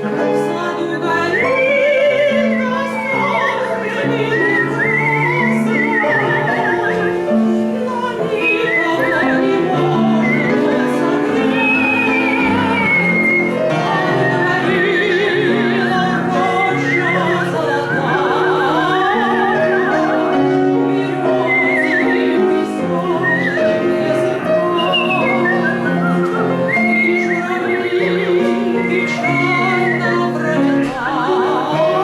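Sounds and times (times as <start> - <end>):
piano accompaniment: 0.0 - 32.0
woman singing operatically: 0.0 - 32.0
high wavering whistling: 0.8 - 31.8.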